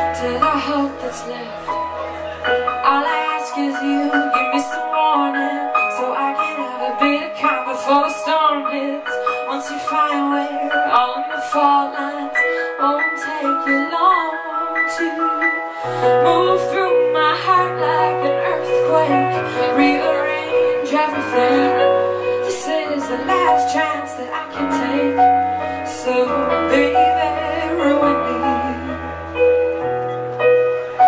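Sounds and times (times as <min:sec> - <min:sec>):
woman singing into a microphone: 0:00.0 - 0:29.5
keyboard accompaniment: 0:00.0 - 0:31.0.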